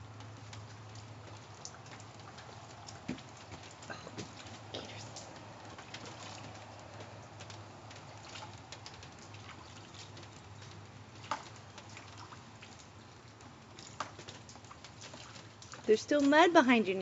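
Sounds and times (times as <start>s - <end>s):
light rain falling: 0.0s - 17.0s
water drips and ticks: 0.0s - 17.0s.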